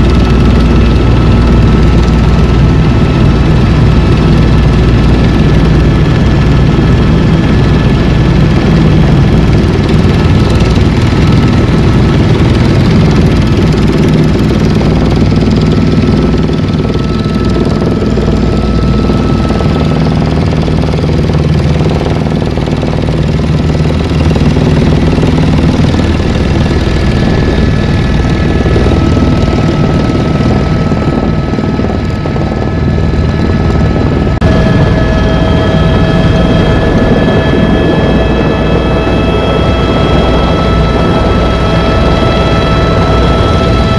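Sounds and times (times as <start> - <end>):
helicopter engine rumble: 0.0 - 43.9.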